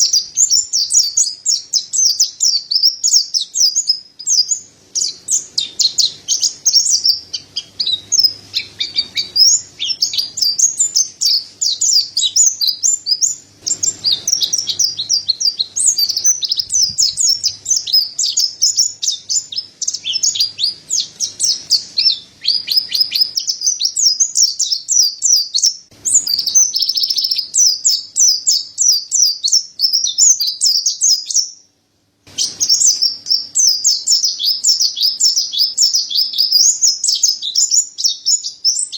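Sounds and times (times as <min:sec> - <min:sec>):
bird twittering song: 0:00.0 - 0:31.7, 0:32.3 - 0:38.9.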